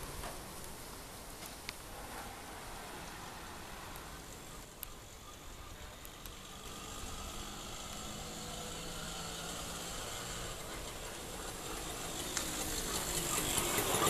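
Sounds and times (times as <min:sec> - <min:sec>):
engine running: 0:02.0 - 0:14.0.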